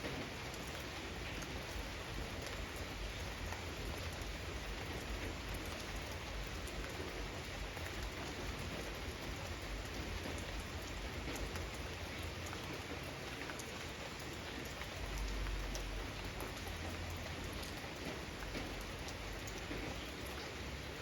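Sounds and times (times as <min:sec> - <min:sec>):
raindrops ticking on surfaces: 0:00.0 - 0:21.0.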